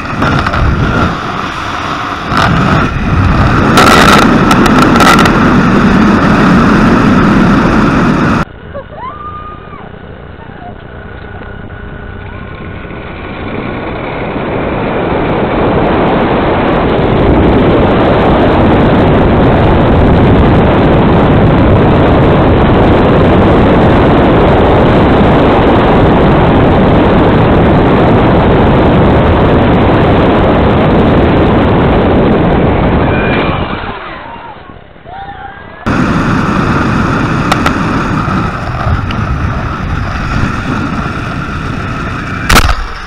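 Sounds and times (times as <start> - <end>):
wind on microphone: 0.0 - 8.5, 9.3 - 43.0.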